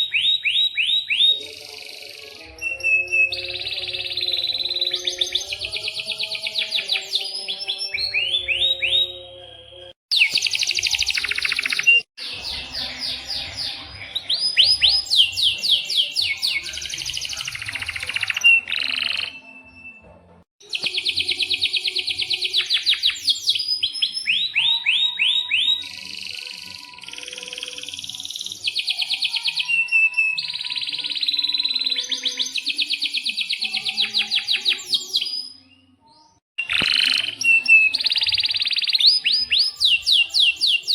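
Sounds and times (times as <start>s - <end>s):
canary singing trills: 0.0s - 20.0s, 20.6s - 40.9s.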